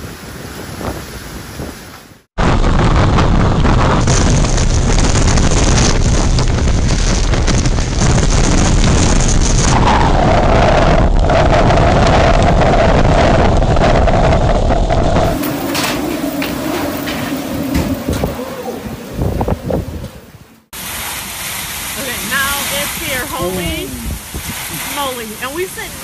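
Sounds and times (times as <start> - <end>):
wind buffeting microphone: 0.0 - 26.0
water washing across deck: 3.8 - 26.0.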